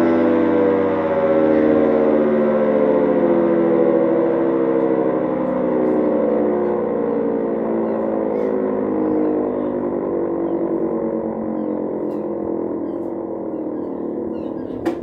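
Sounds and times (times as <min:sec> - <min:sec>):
air raid siren: 0:00.0 - 0:15.0.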